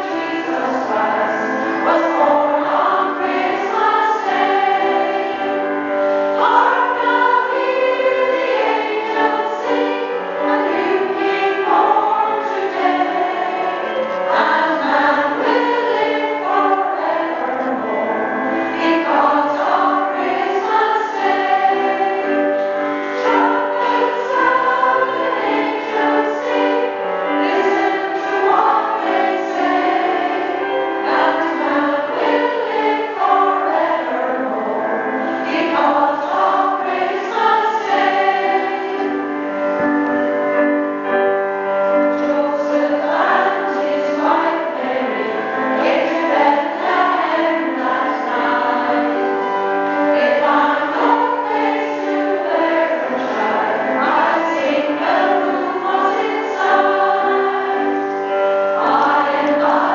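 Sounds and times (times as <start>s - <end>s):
women's choir singing in harmony: 0.0s - 59.9s.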